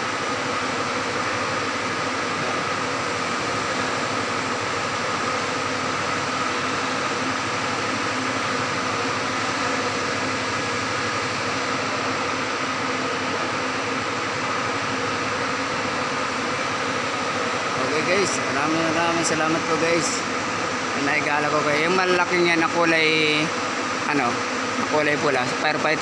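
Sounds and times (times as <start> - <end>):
ventilation fans droning: 0.0 - 26.0.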